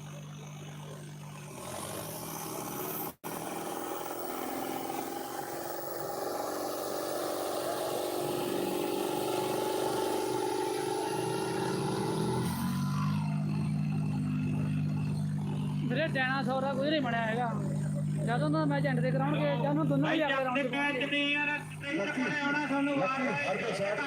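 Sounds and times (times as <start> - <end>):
diesel tractor engines revving: 0.0 - 24.0.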